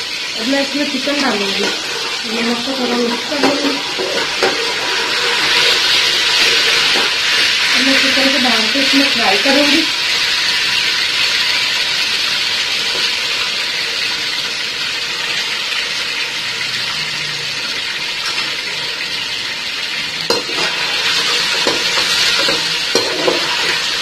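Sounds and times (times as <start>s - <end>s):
chicken sizzling in hot oil: 0.0s - 24.0s.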